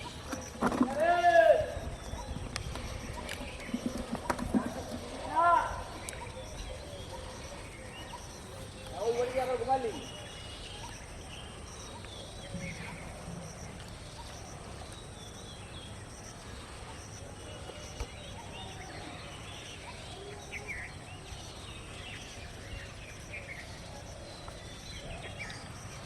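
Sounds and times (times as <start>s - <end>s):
insects calling: 0.0s - 26.0s
small birds chirping: 0.0s - 26.0s.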